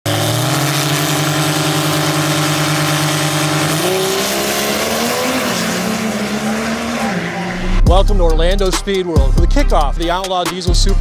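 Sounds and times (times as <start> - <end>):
diesel truck engines revving: 0.0 - 11.0.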